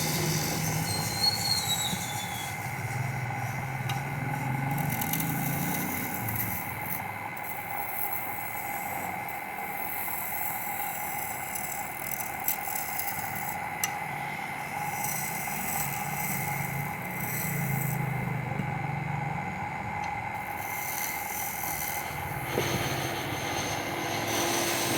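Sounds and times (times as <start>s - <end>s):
tool scraping spinning wood: 0.0s - 18.7s, 20.0s - 24.9s
wood lathe humming: 0.0s - 24.9s.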